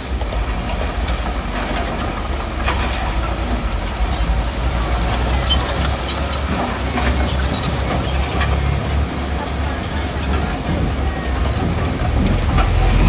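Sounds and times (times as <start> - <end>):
diesel machinery rumbling: 0.0 - 13.0.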